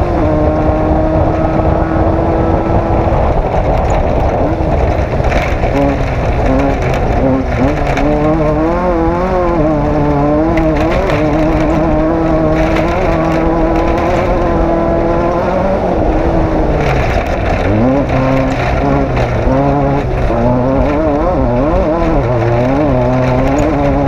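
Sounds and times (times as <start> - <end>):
race vehicle engine revving: 0.0 - 24.0.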